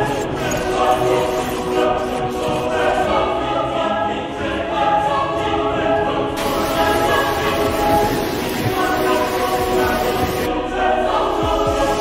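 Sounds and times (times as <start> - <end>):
choir singing sustained chords: 0.0 - 12.0.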